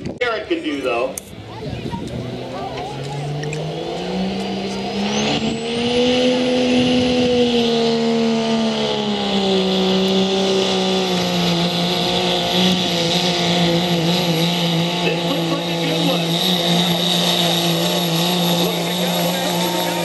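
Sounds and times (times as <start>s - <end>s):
diesel truck engine at high revs: 0.0s - 20.0s
turbocharger whistle: 2.8s - 20.0s.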